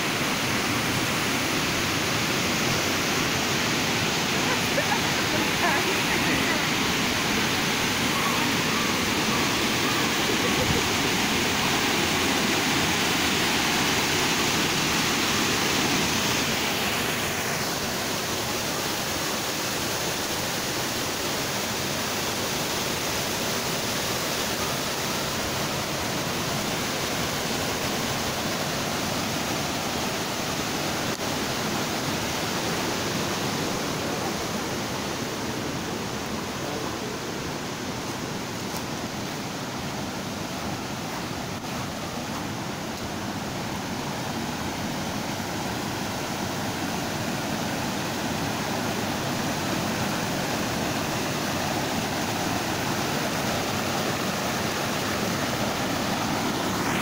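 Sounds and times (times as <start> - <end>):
waterfall rushing over rock: 0.0 - 57.0.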